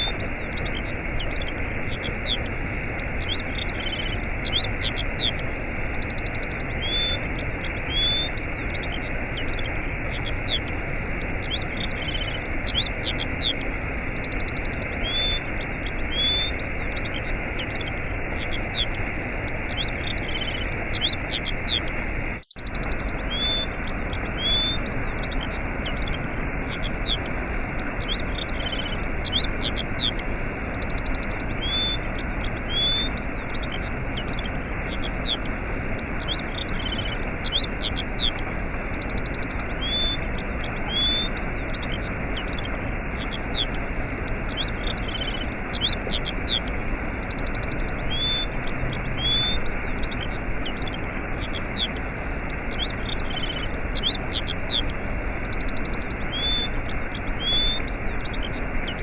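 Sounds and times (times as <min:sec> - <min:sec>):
songbirds chirping and trilling: 0:00.0 - 0:59.0
waterfall rushing: 0:00.1 - 0:59.0.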